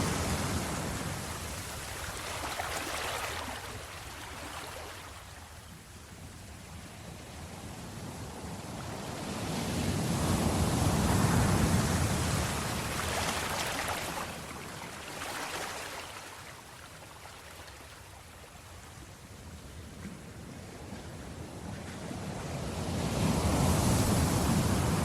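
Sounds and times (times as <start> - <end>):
sea waves washing onto shore: 0.0 - 5.5, 7.6 - 25.0.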